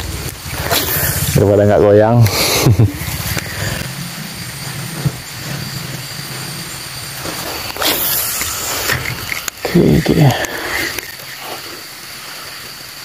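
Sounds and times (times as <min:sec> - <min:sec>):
fishing reel whirring: 0:00.0 - 0:13.0
rush of noise: 0:00.0 - 0:13.0.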